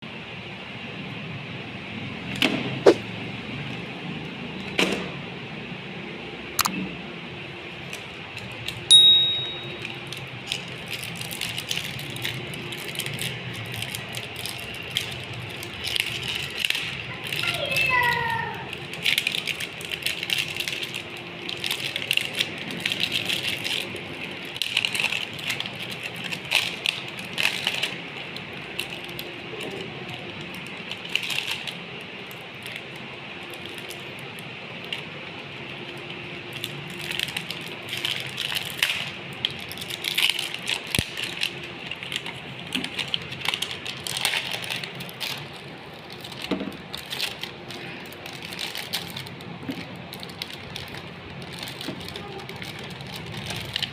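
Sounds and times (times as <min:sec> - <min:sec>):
meat grinder crackling and rattling: 0:07.7 - 0:53.9.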